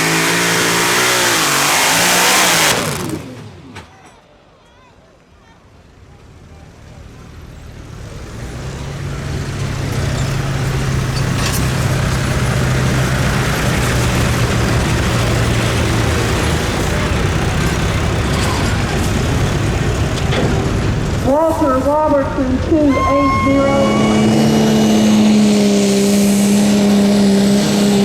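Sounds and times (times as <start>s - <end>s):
engine roaring under load: 0.0s - 4.1s, 6.2s - 28.0s.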